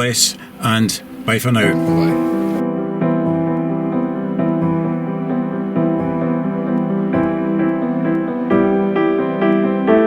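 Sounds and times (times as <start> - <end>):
gentle slow piano music: 0.0 - 10.0.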